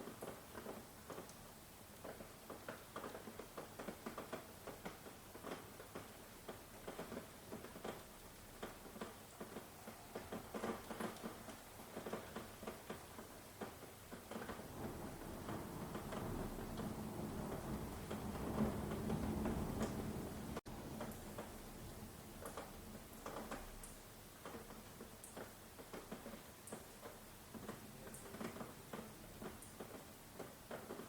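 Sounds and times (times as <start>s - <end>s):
rain drops tapping: 0.0s - 31.0s.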